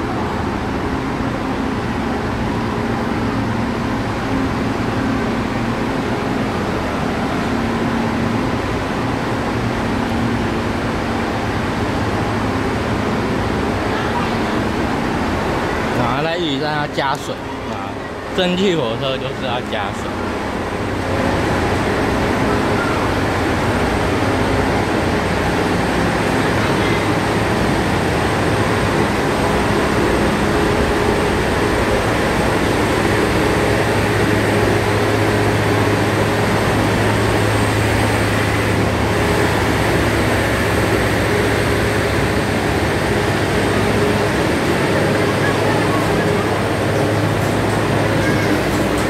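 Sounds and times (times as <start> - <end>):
low engine drone: 0.0 - 49.0.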